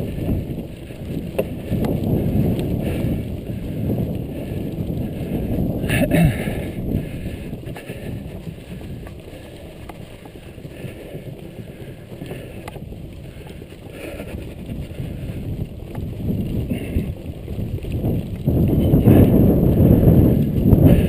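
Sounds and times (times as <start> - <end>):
bike tyres rumbling over boards: 0.0 - 21.0
wind on microphone: 0.0 - 21.0.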